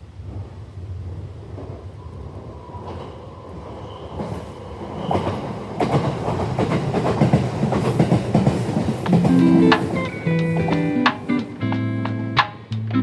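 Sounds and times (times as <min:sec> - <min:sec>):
train wheels clattering over rails: 0:00.3 - 0:11.8.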